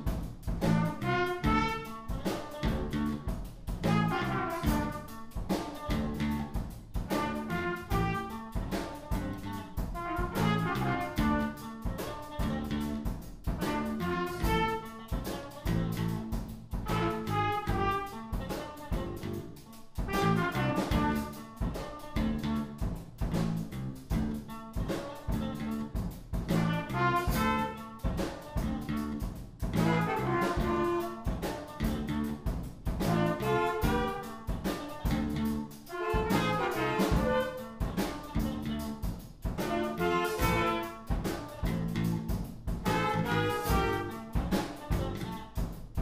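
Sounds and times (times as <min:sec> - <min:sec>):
acoustic bass guitar line: 0:00.0 - 0:01.8, 0:02.6 - 0:05.1, 0:05.9 - 0:11.6, 0:12.3 - 0:14.8, 0:15.6 - 0:18.1, 0:18.9 - 0:21.3, 0:22.1 - 0:31.0, 0:31.7 - 0:46.0
drum kit beat: 0:00.0 - 0:46.0
trumpets and saxophone melody: 0:00.0 - 0:46.0.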